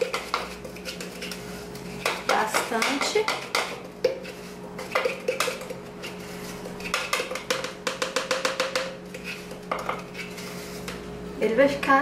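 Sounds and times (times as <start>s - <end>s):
metal spoon stirring in plastic cup: 0.0s - 11.0s.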